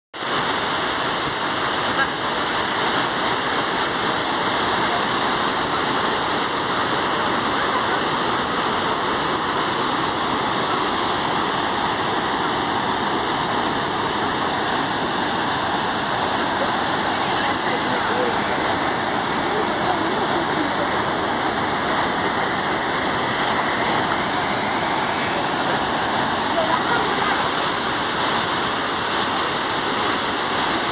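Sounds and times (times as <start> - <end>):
water rushing: 0.2 - 30.9.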